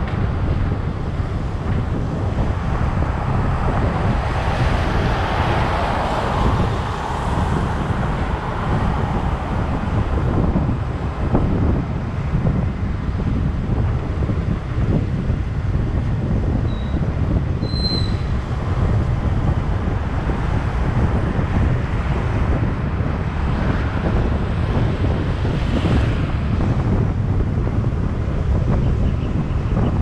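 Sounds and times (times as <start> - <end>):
road and traffic noise: 0.0 - 30.0
wind buffeting microphone: 0.0 - 30.0.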